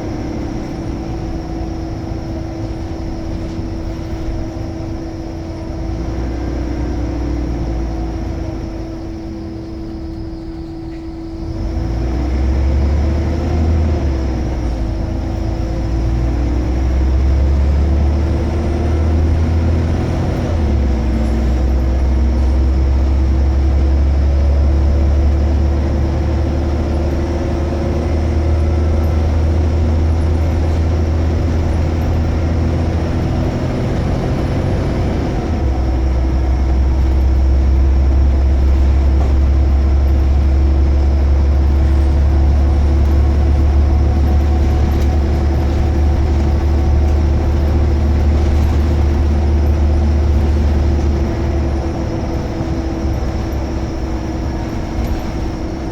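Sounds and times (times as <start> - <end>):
bus diesel engine drone: 0.0 - 55.9
engine whine: 0.0 - 55.9.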